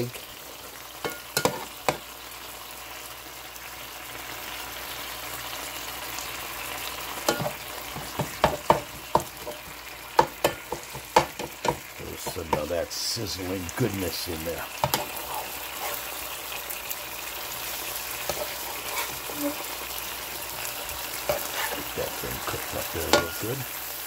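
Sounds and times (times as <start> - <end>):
meat sizzling in a skillet: 0.0 - 24.0.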